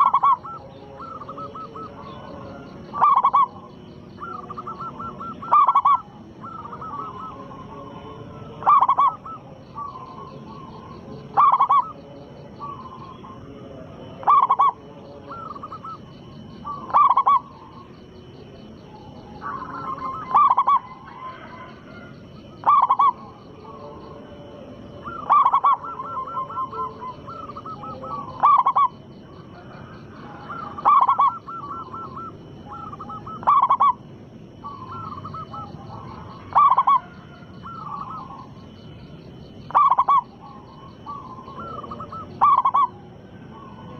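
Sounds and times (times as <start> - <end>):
dove calling loudly: 0.0 - 13.5, 14.1 - 43.9
dove soft rolling coos: 0.0 - 43.9.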